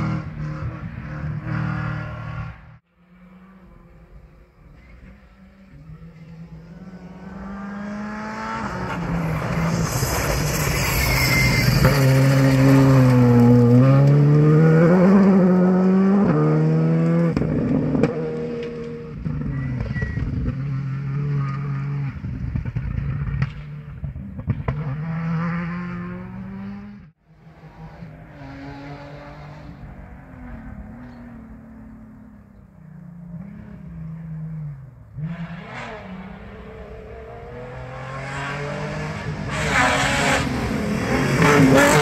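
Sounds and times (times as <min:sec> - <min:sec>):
rally car engine at full throttle: 0:00.0 - 0:42.0.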